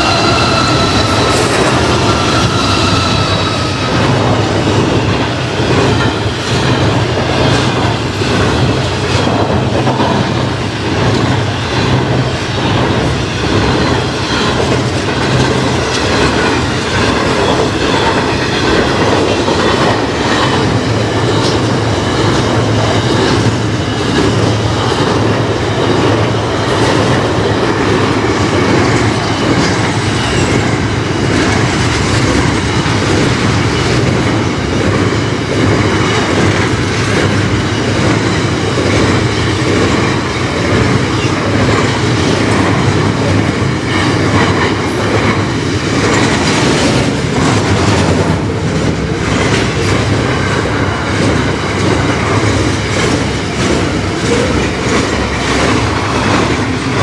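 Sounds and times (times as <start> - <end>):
freight train rolling over bridge: 0.0 - 57.0
wheel and rail noise: 0.0 - 57.0.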